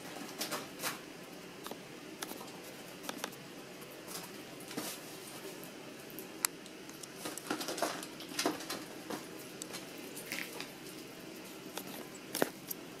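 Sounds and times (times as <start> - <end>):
squirrels eating nuts: 0.0 - 13.0.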